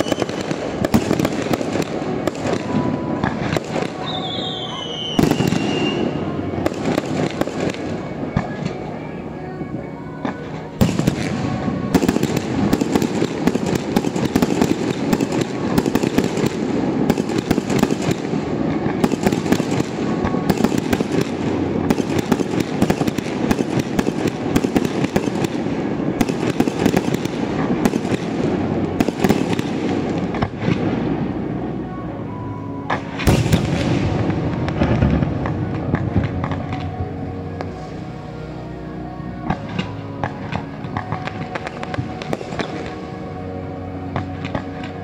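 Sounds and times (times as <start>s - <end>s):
fireworks crackling: 0.0s - 45.0s.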